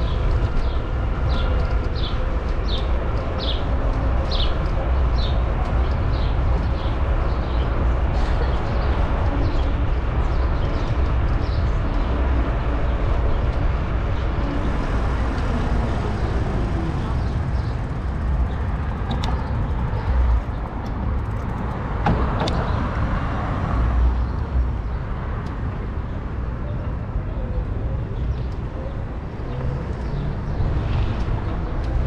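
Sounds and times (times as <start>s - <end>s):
tyre and road noise: 0.0s - 32.0s
wind rumbling on microphone: 0.0s - 32.0s.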